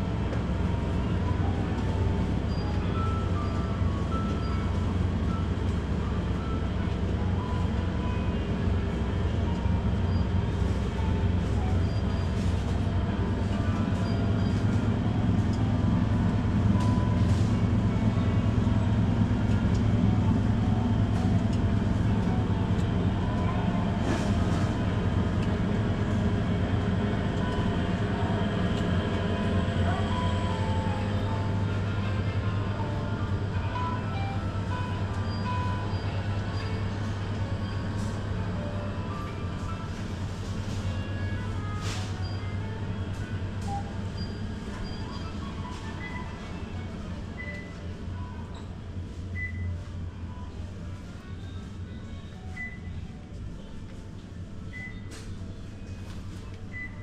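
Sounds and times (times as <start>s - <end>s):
faint in-store music: 0.0s - 57.0s
low hum and rumble: 0.0s - 57.0s.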